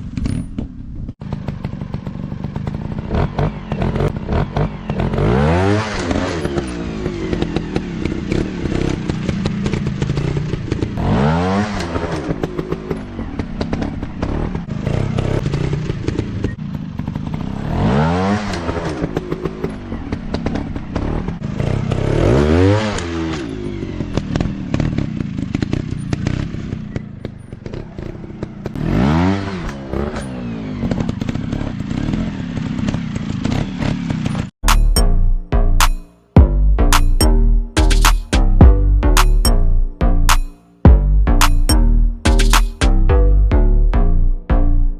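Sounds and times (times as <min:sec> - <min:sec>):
dirt bike engine revving: 0:01.2 - 0:27.0, 0:27.6 - 0:44.9.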